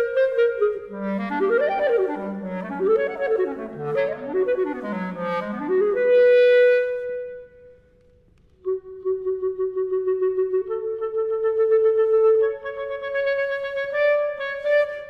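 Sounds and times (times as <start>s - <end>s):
solo clarinet playing: 0.0s - 7.8s, 8.6s - 15.0s.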